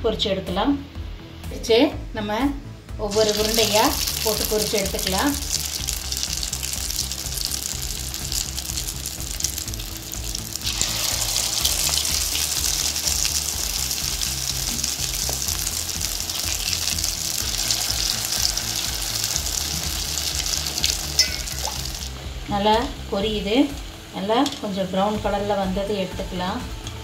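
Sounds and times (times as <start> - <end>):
batter deep-frying in oil: 3.0 - 25.9.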